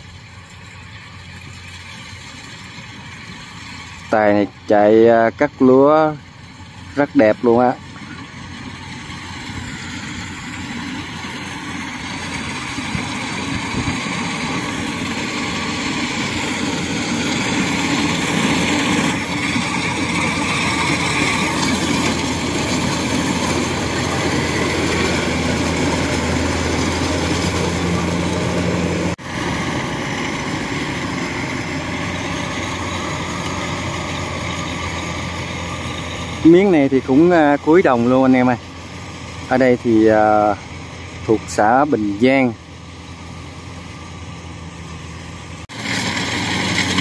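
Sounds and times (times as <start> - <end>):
combine harvester running: 0.0 - 47.0.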